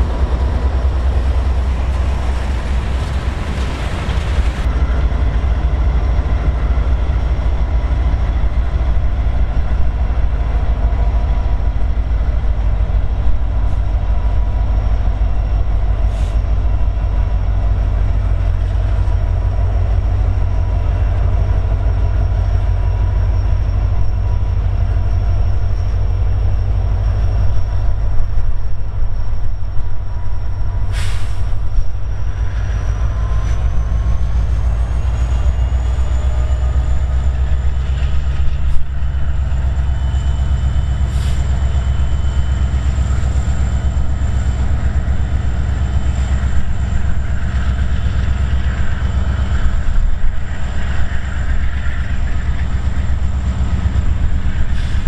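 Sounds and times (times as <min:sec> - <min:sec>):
locomotive engine rumble: 0:00.0 - 0:55.0.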